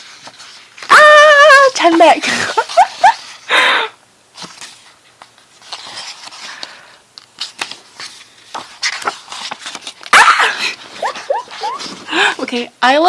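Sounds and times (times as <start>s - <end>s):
paper pages rustling: 0.0s - 0.9s, 1.8s - 3.5s, 4.3s - 12.5s.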